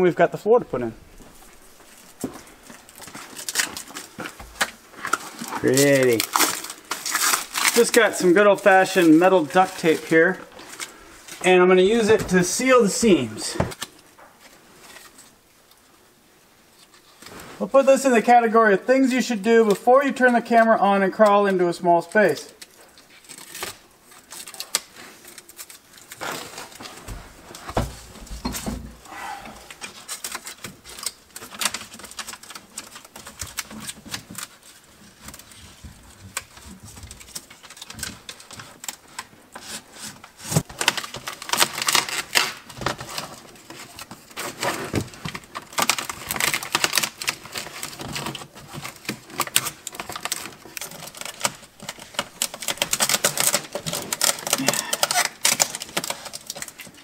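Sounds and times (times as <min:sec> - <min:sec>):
foil tape crinkling: 0:01.3 - 0:15.9, 0:16.7 - 0:57.0.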